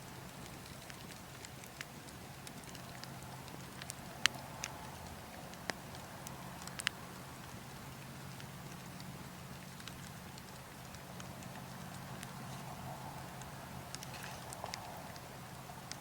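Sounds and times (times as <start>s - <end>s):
burning logs crackling: 0.0s - 16.0s
fire popping: 0.0s - 16.0s
low wind rumble: 0.0s - 16.0s.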